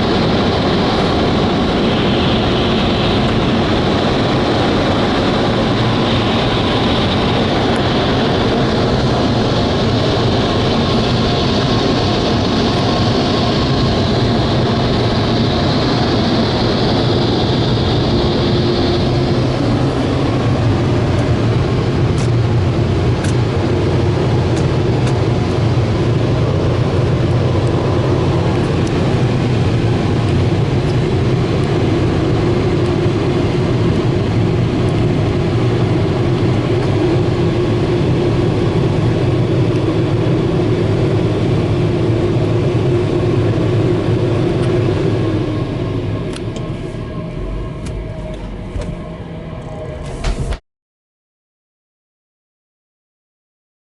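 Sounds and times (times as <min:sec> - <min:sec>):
car wash rushing air or water: 0:00.0 - 0:50.6
low machinery hum: 0:00.0 - 0:50.6.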